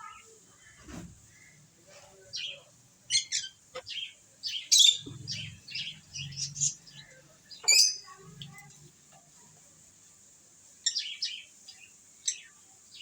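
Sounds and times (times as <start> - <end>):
lovebirds chirping: 0.0 - 9.0, 10.2 - 13.0.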